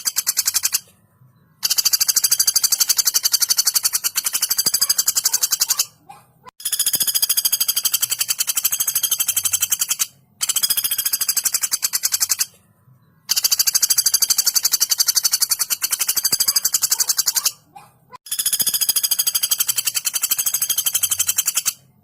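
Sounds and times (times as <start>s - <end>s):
woodpecker rattling calls: 0.0s - 0.9s, 1.6s - 12.6s, 13.2s - 21.9s.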